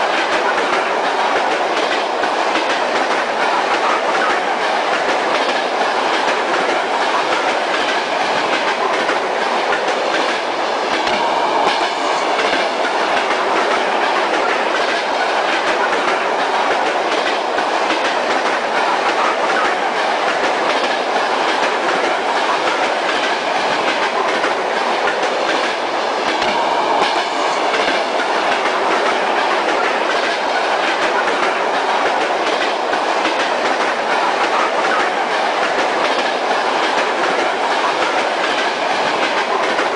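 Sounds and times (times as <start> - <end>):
metro train wheels on rails: 0.0 - 39.9.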